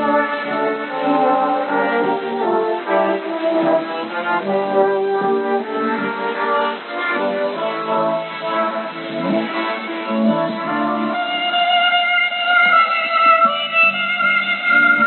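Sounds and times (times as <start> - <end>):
instrumental music on shortwave radio: 0.0 - 15.0.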